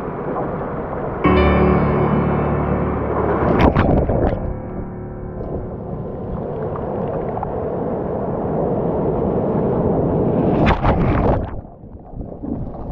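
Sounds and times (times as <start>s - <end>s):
ocean surf rushing: 0.0s - 11.3s
wave crashing: 0.0s - 11.7s.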